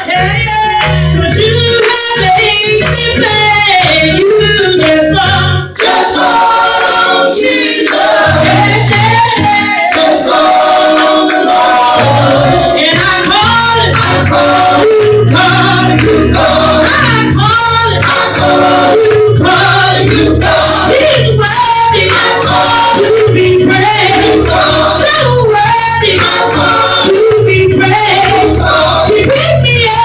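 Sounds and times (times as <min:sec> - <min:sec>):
gospel group singing: 0:00.0 - 0:30.0
instrumental backing with bass and beat: 0:00.0 - 0:30.0.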